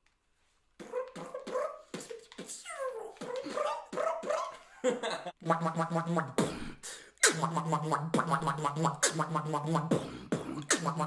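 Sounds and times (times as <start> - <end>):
beatboxing hummed bass: 0.8 - 4.5, 5.4 - 11.0
percussive mouth hits: 0.8 - 4.5, 5.4 - 11.0.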